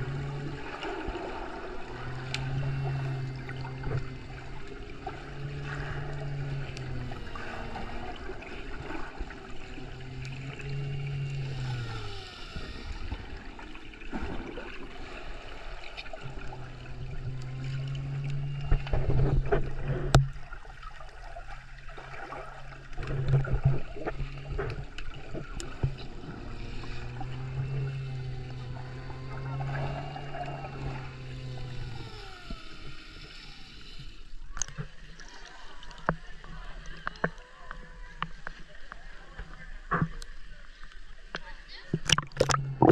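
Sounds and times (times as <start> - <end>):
low steady hum: 0.0 - 42.9
underwater water bubbling: 0.0 - 42.9.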